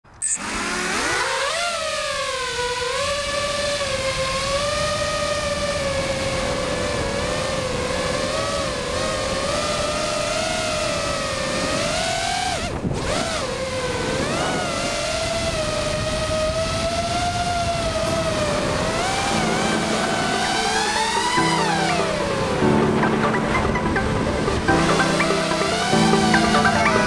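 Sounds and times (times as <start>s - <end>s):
quadcopter motors whining: 0.1s - 27.0s.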